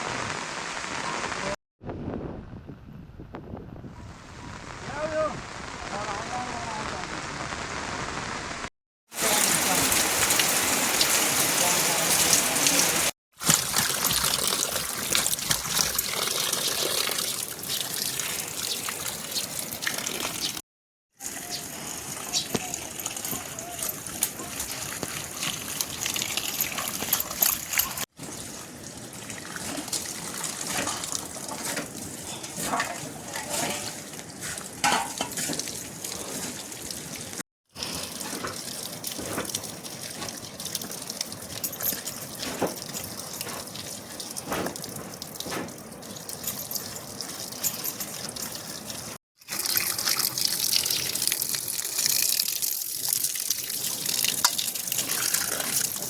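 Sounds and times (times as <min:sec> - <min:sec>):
water running and splashing: 0:09.1 - 0:20.6, 0:21.2 - 0:56.0.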